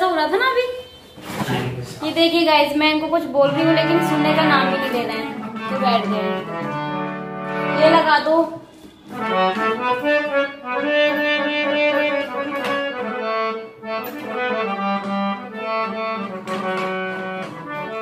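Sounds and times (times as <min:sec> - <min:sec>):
harmonium playing slow melody: 0:03.4 - 0:18.0.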